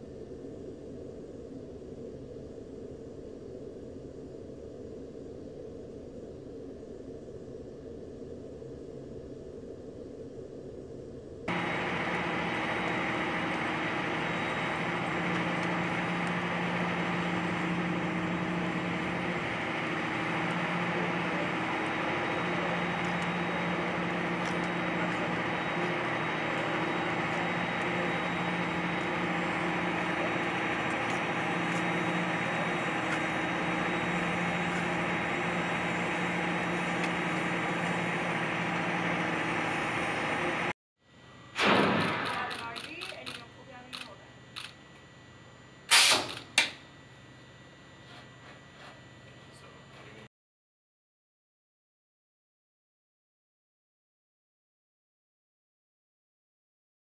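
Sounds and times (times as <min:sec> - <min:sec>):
aircraft engine drone: 0:00.0 - 0:50.3.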